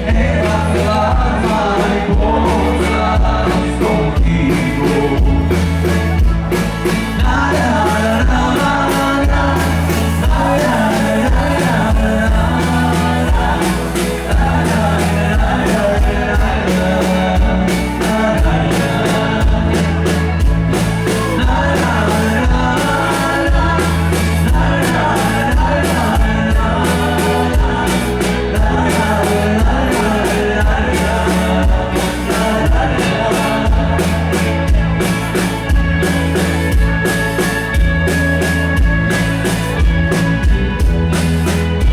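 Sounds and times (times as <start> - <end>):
person singing: 0.0 - 37.8
bass: 0.0 - 41.9
drums: 0.0 - 41.9.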